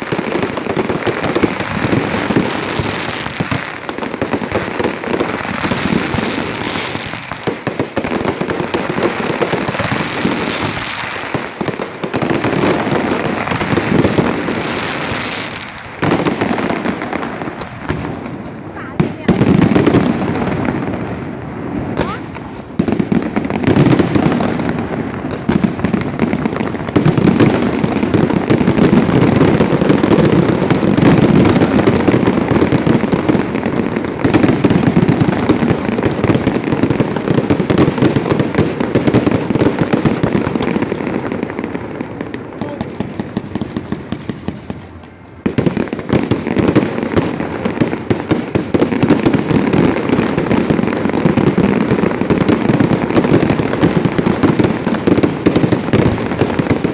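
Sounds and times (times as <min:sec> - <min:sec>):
fireworks booming and crackling: 0:00.0 - 0:56.9.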